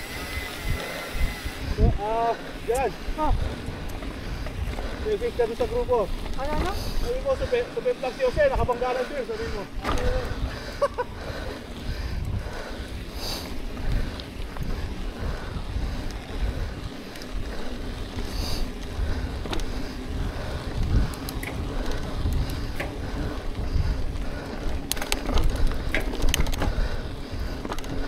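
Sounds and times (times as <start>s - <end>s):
bike rattling clicks: 0.0s - 28.0s
bike rolling over dirt: 0.0s - 28.0s.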